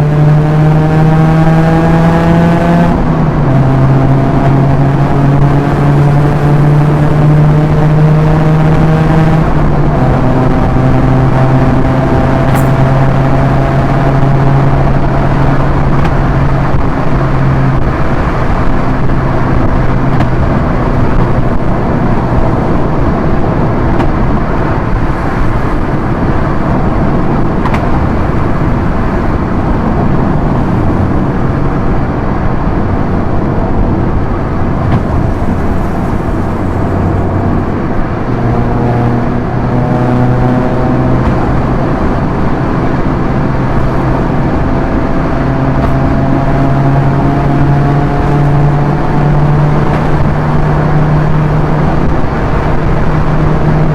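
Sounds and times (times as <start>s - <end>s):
car engine drone: 0.0s - 53.9s
tyre and wind noise: 0.0s - 53.9s.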